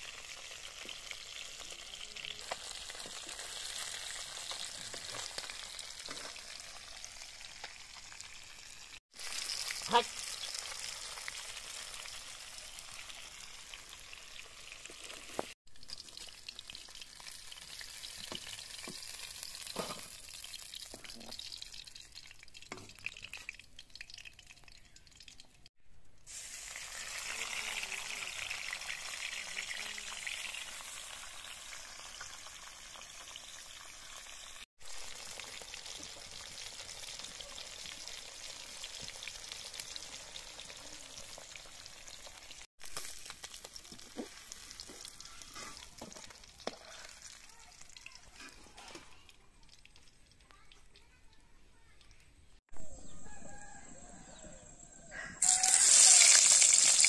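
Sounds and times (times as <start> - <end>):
fish sizzling in hot oil: 0.0 - 50.4, 55.4 - 57.0.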